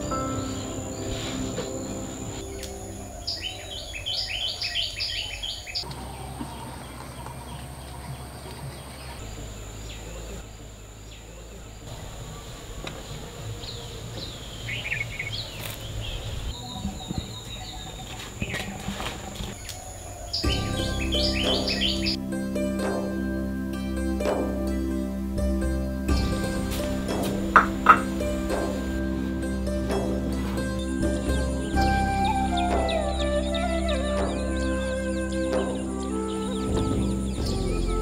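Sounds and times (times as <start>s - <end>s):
birds chirping: 0.0s - 22.2s, 25.3s - 38.0s.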